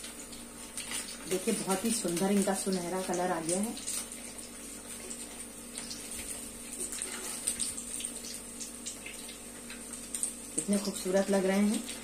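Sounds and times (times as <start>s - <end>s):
deep-frying sizzle in hot oil: 0.0s - 12.0s.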